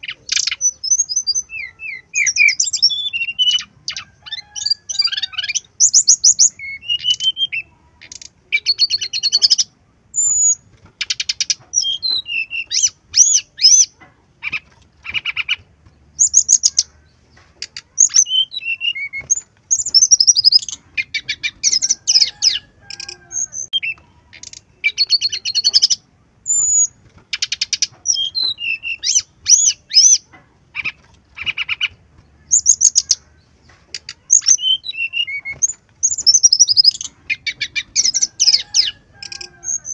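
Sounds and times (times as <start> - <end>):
bird singing trills and whistles: 0.0 - 16.9, 17.6 - 30.2, 30.8 - 33.2, 34.0 - 39.9.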